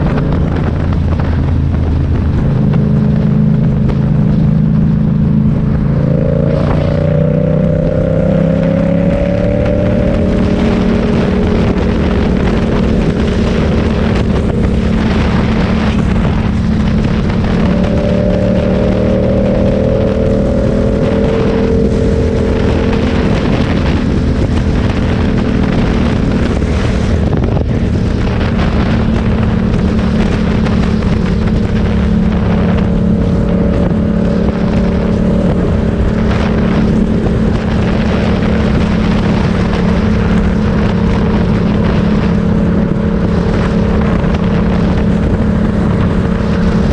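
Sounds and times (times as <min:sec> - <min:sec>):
motorcycle engine running: 0:00.0 - 0:46.9
rushing noise: 0:00.0 - 0:46.9.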